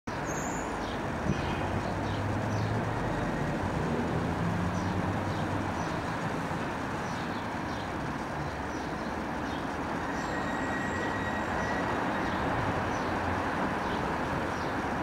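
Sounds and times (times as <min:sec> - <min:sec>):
vehicle engines rumbling: 0:00.1 - 0:15.0.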